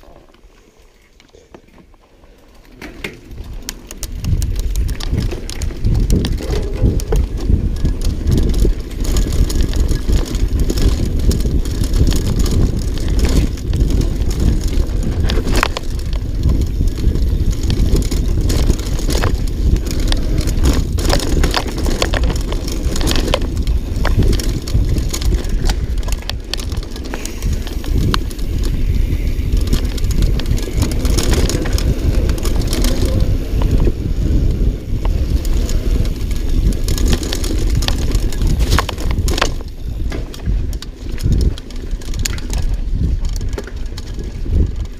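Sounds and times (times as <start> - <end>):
bike rattling over bumps: 1.3 - 44.9
tyres rumbling on dirt: 2.8 - 44.9.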